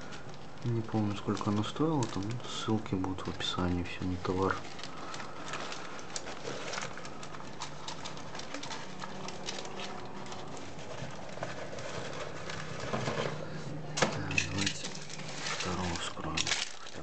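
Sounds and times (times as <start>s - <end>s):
canvas and plastic film crinkling: 0.0s - 17.0s.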